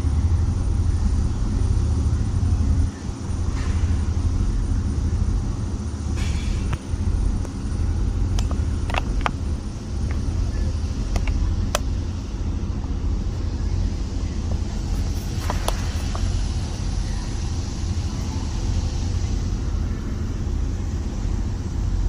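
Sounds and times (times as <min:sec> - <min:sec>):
ship engine rumble: 0:00.0 - 0:22.0.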